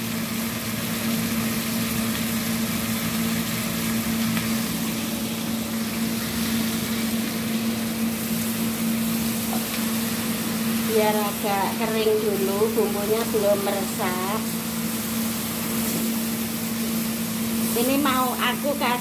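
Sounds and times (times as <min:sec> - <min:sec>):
fish sizzling in a pan: 0:00.0 - 0:19.0
steady low hum: 0:00.0 - 0:19.0.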